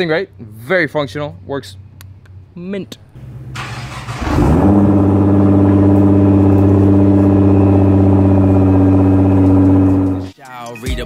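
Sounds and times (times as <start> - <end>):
car engine idling: 1.1 - 10.3.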